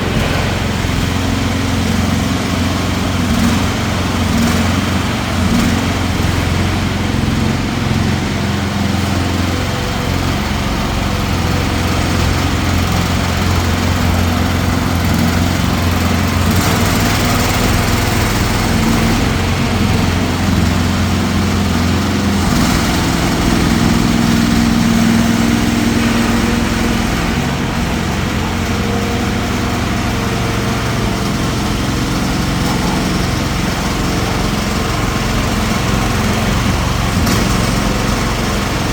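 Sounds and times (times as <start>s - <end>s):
small excavator engine running: 0.0s - 38.9s.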